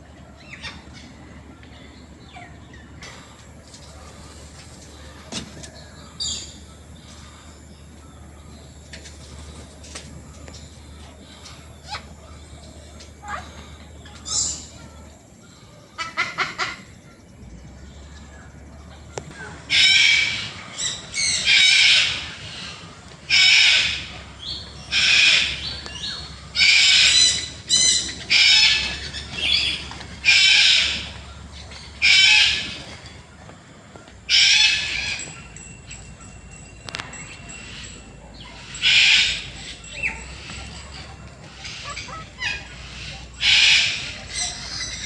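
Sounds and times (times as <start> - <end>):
birds squawking harshly: 2.2 - 17.0, 18.8 - 33.3, 34.2 - 36.1, 37.4 - 45.0.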